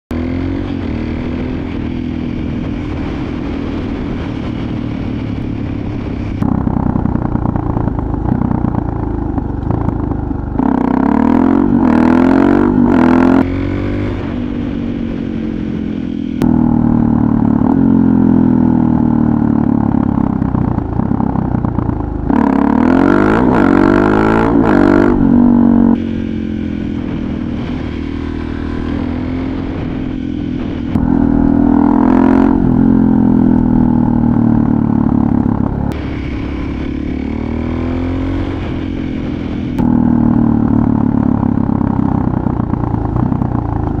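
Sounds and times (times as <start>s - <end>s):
motorcycle engine revving: 0.1s - 44.0s.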